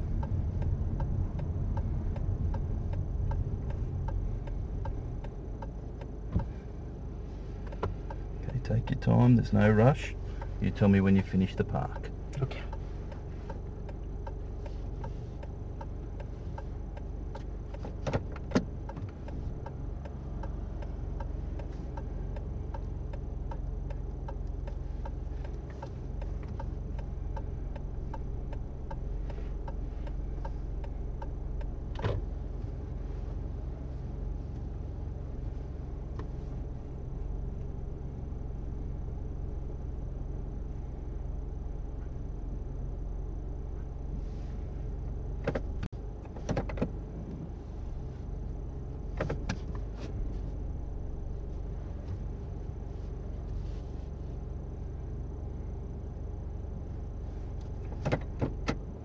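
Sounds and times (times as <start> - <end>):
turn signal ticking: 0.0 - 44.1, 44.8 - 53.4, 54.3 - 59.0
car engine running low: 0.0 - 59.0.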